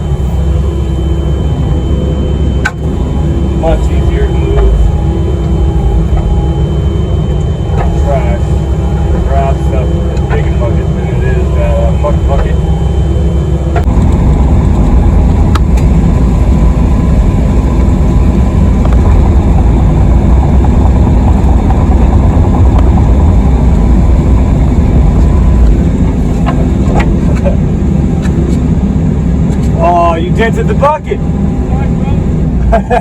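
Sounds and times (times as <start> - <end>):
excavator diesel engine running: 0.0 - 30.2.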